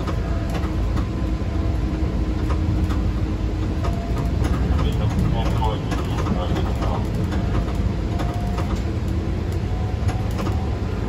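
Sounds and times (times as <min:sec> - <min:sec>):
wheels clicking on rails: 0:00.0 - 0:01.4, 0:02.2 - 0:11.0
light rail car rumbling: 0:00.0 - 0:11.0.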